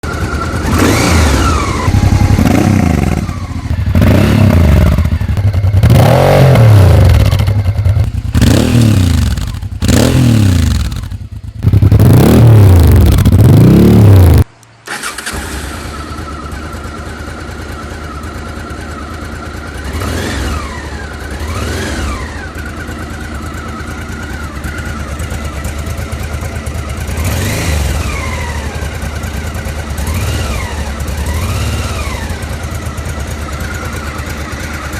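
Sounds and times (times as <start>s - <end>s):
motorcycle engine idling: 0.0s - 13.4s, 15.7s - 34.9s
motorcycle engine revving: 0.0s - 34.9s.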